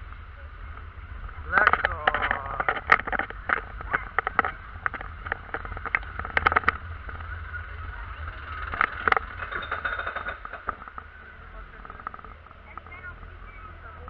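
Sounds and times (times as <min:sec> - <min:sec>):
mechanical hum and rumble: 0:00.0 - 0:14.0
roller coaster clacks and rattles: 0:00.0 - 0:14.0.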